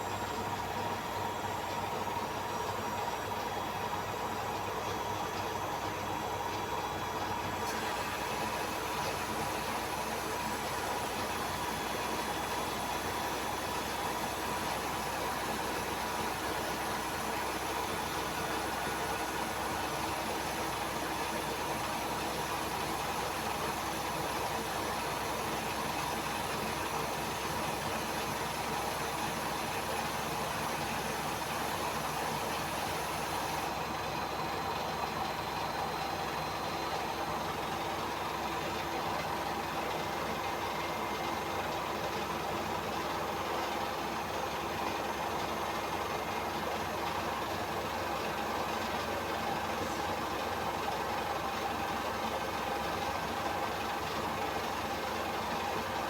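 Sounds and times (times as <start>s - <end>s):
washing machine whirring: 0.0s - 56.0s.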